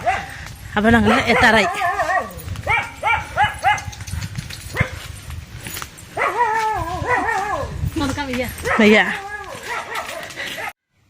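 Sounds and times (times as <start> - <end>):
dogs barking: 0.0 - 5.2, 6.1 - 7.8, 8.5 - 10.8.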